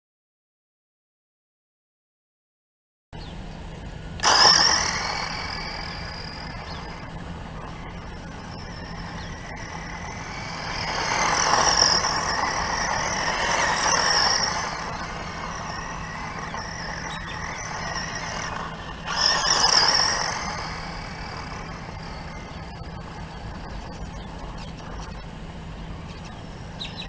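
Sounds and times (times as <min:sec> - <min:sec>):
electric motor whining: 0:04.0 - 0:26.8.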